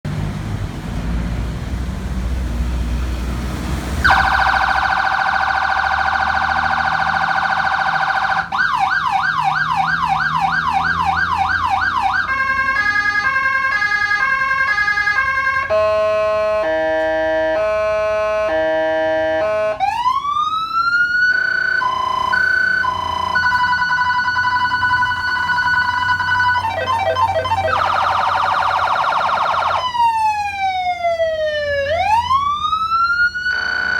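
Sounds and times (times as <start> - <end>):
electronic police siren: 4.0 - 33.9.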